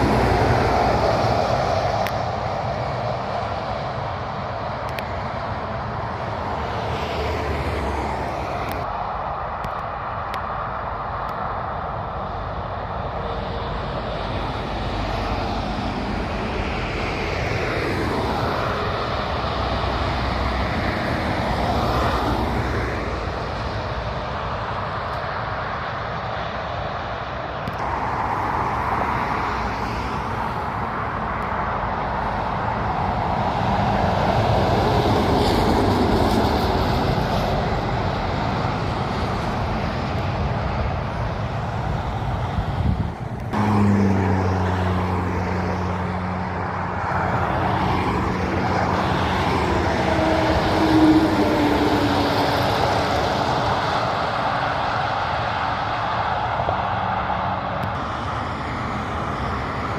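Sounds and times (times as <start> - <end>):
heavy trucks driving past: 0.0 - 59.9.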